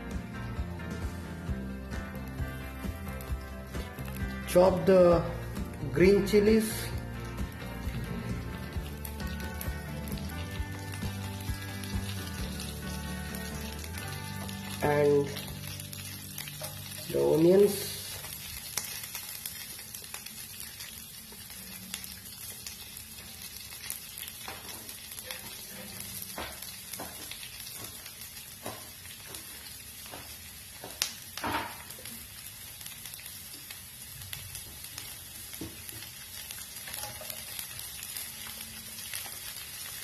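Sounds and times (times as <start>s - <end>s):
onions sizzling in hot oil: 1.0s - 40.0s.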